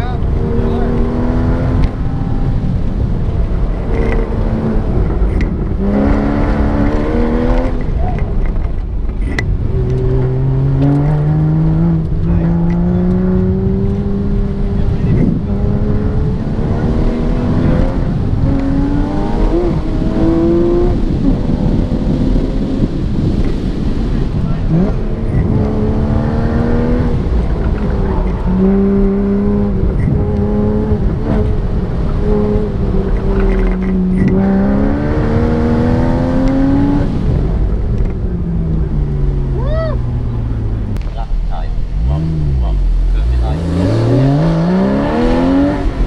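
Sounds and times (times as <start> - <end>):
car engine accelerating: 0.0 - 46.0.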